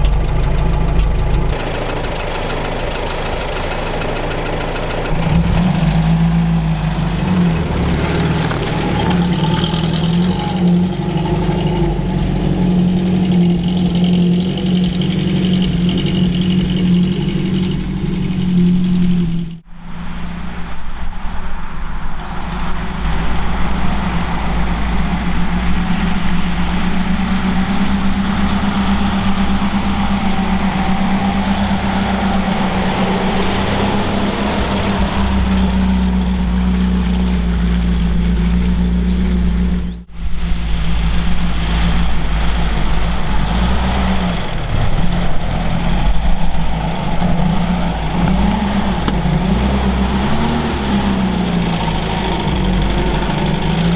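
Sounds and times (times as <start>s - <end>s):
petrol engine running: 0.0s - 53.9s.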